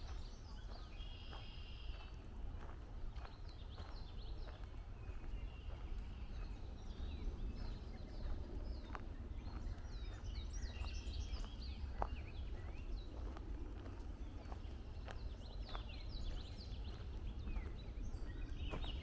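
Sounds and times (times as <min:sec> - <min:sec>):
footsteps on a trail: 0:00.0 - 0:19.0
songbirds chirping: 0:00.0 - 0:19.0.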